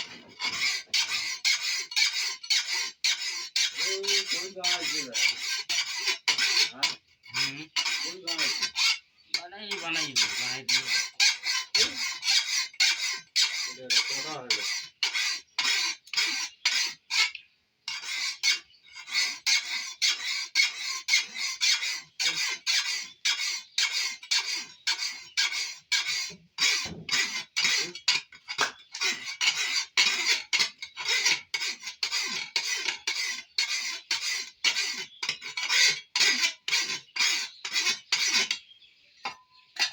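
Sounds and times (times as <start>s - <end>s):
hand file rasping on steel: 0.0s - 38.6s.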